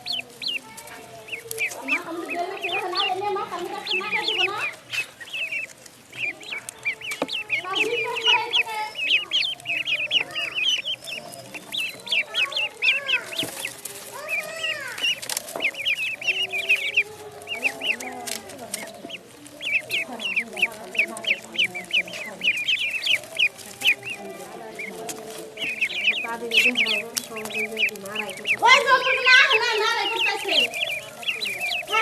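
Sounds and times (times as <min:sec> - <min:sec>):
ducklings peeping: 0:00.0 - 0:32.0
lower longer bird calls: 0:00.0 - 0:32.0.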